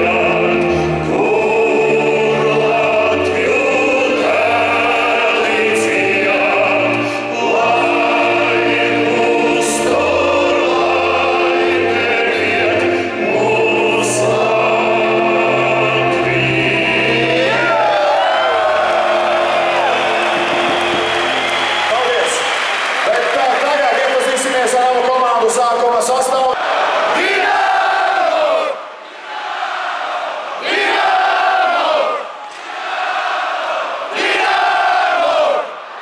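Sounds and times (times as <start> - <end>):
choir and orchestra over loudspeakers: 0.0 - 36.0.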